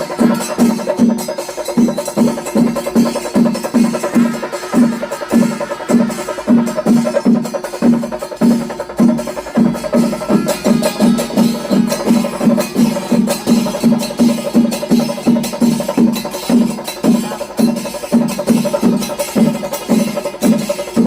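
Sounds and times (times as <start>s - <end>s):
cymbals clashing: 0.0s - 21.0s
drums beaten in steady rhythm: 0.0s - 21.0s.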